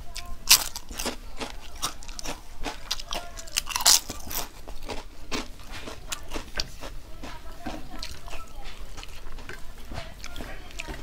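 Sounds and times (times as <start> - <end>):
crunching and chewing crisp food: 0.0 - 11.0.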